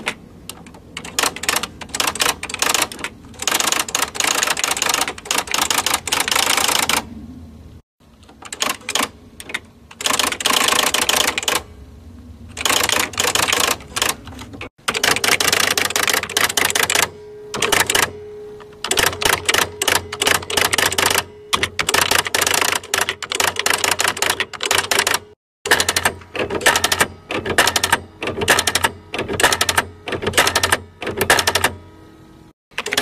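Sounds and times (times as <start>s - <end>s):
typewriter keystrokes clacking: 0.0s - 7.0s, 8.3s - 11.6s, 12.5s - 18.1s, 18.9s - 31.8s, 32.7s - 33.0s.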